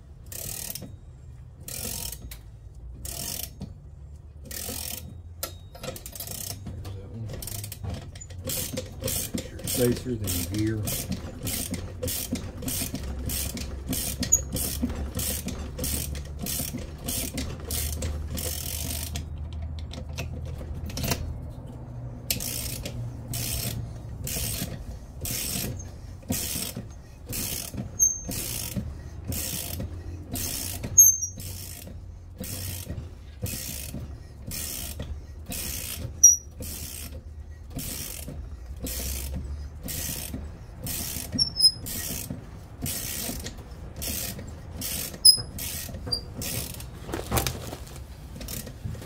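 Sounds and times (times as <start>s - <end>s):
ratchet wrench clicking: 0.2s - 0.9s, 1.6s - 3.7s, 4.4s - 6.7s, 7.4s - 21.3s, 22.3s - 46.9s.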